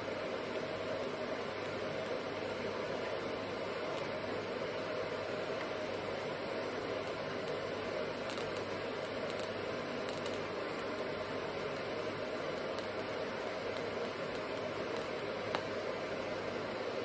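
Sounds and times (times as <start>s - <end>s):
welding arc hissing: 0.0s - 15.6s.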